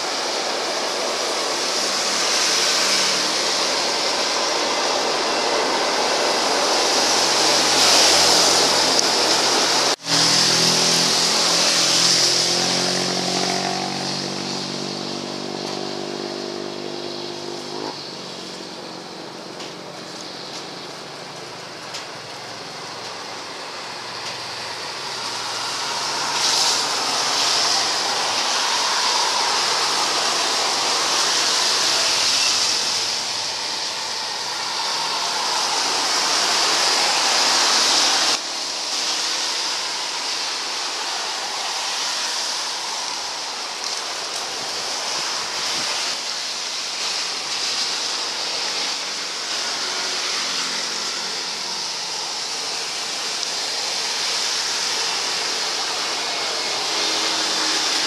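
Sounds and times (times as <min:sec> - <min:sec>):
jet airliner engines: 0:00.0 - 0:58.0.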